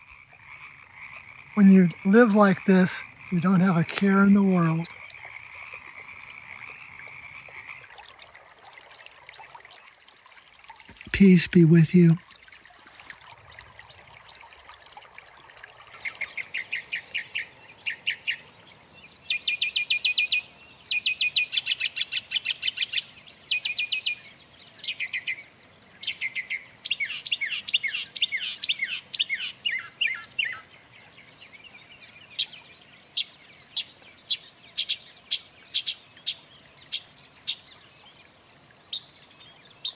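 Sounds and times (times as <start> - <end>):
songbird singing: 0.0 - 8.0, 15.9 - 39.9.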